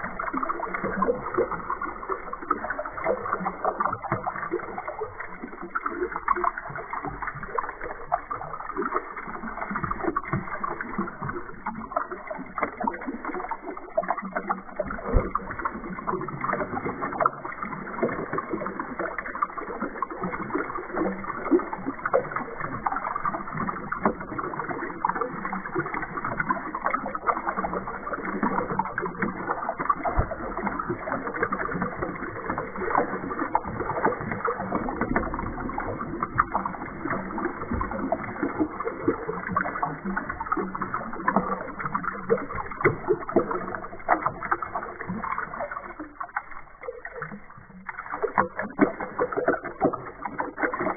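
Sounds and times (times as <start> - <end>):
water pouring into a tub: 0.0 - 50.9.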